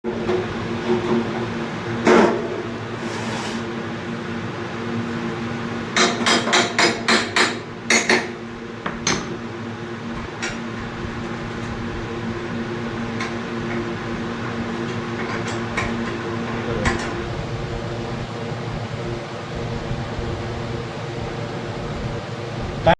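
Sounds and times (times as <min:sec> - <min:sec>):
washing machine hum: 0:00.0 - 0:22.9.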